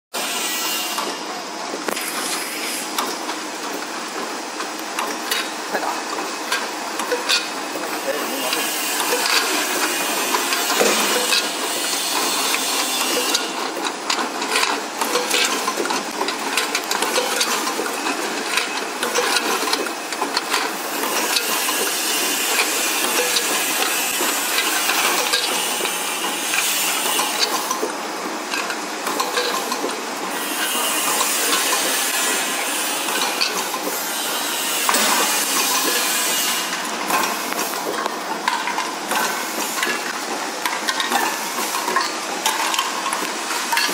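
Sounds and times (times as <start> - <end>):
filling machine clattering: 3.1 - 43.9.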